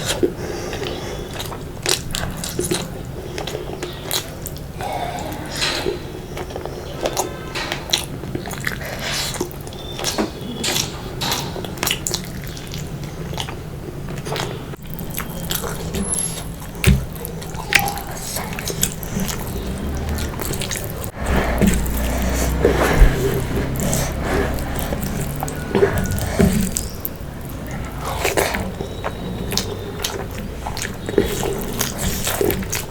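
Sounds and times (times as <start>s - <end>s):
wet chewing and lip-smacking: 0.0s - 4.8s, 5.8s - 32.9s.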